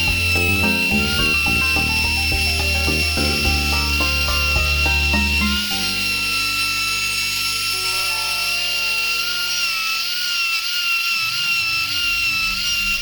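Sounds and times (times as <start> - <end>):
background music: 0.0 - 10.4
router high whine: 0.0 - 13.0.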